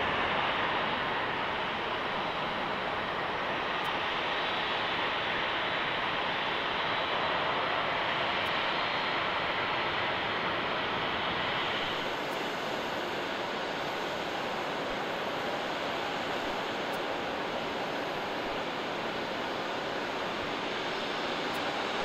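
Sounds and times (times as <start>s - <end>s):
faint steady whine: 0.0s - 22.0s
jet engines roaring: 0.0s - 22.0s.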